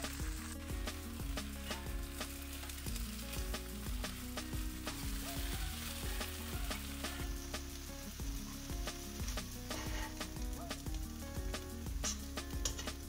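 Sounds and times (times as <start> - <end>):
leaves sizzling in a pan: 0.0 - 13.0.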